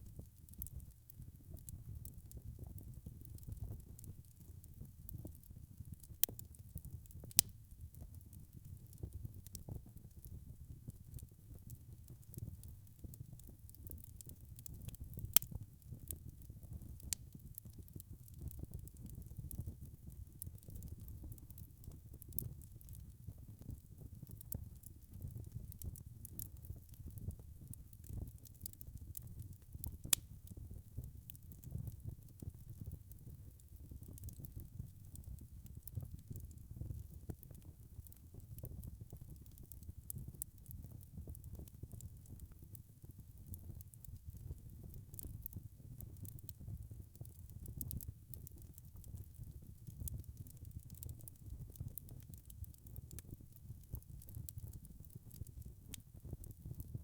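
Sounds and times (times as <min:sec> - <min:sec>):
fire crackling: 0:00.1 - 0:56.9.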